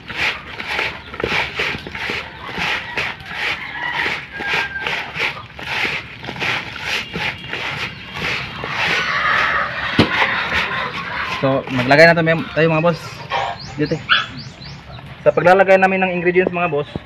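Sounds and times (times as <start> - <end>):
hands squeezing wet vegetables: 0.0 - 13.8.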